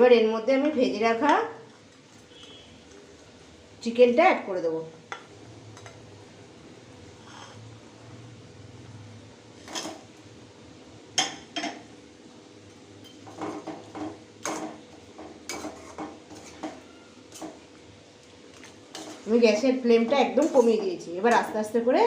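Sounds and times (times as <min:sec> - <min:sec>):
gravy boiling: 0:00.0 - 0:22.0.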